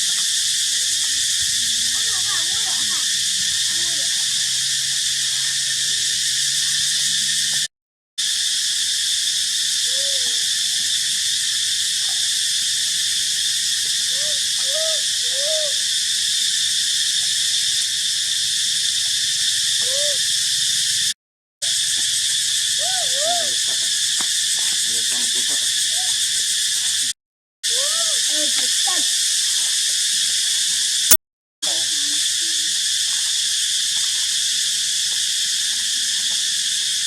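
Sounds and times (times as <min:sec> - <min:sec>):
insect chorus: 0:00.0 - 0:37.0.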